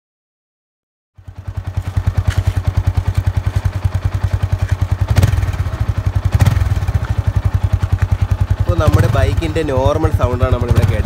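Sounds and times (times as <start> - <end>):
motorcycle engine idling: 1.2 - 11.0.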